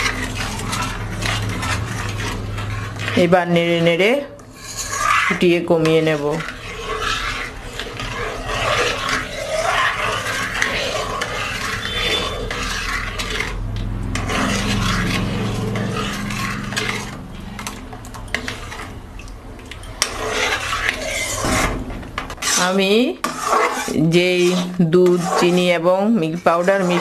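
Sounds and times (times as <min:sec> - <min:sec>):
spoon scraping metal wok: 0:00.0 - 0:27.0.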